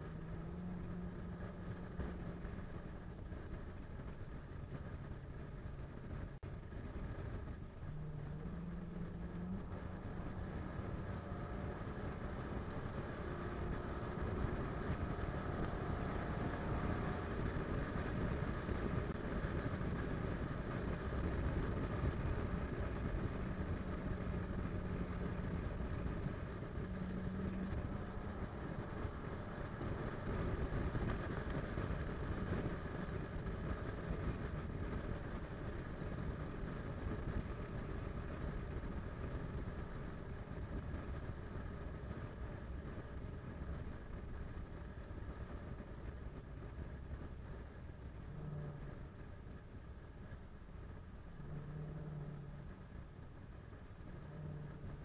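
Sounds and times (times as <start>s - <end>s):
car engine running: 0.0s - 55.0s
low hum: 0.0s - 55.0s
road and tyre noise: 0.0s - 55.0s.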